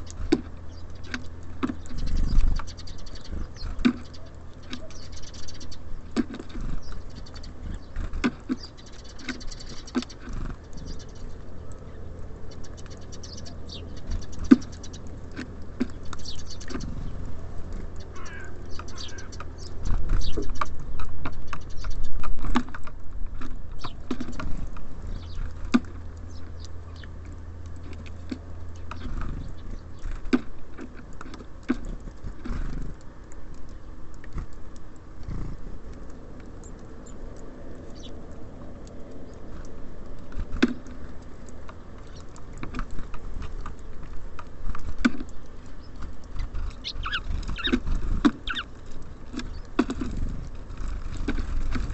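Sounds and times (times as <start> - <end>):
birds pecking at feeder: 0.0 - 51.9.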